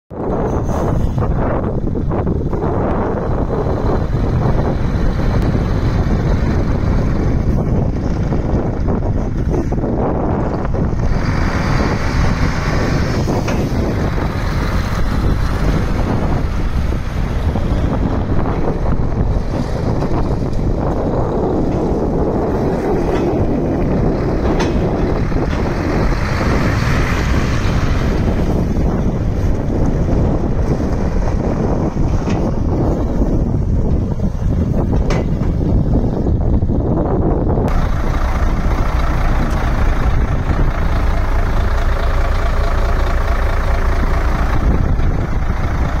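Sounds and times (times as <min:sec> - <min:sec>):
wind buffeting microphone: 0:00.1 - 0:46.0
diesel engine idling: 0:00.2 - 0:46.0.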